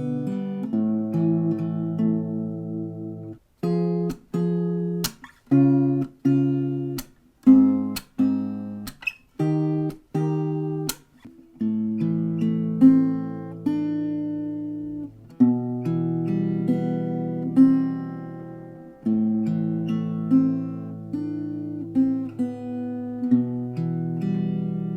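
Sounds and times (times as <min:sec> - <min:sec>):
acoustic guitar strummed chords: 0:00.0 - 0:24.9.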